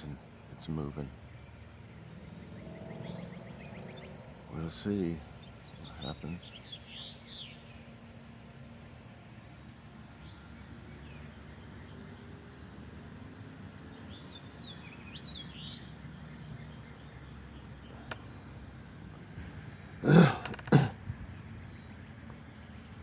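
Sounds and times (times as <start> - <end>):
outdoor background: 0.0 - 23.0
songbird chirps: 0.0 - 23.0.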